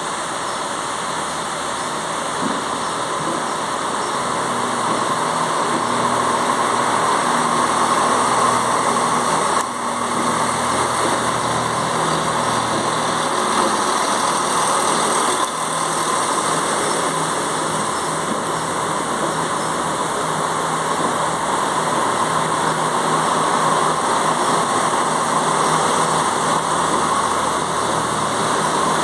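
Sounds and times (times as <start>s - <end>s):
train diesel engines whining: 0.0s - 29.0s.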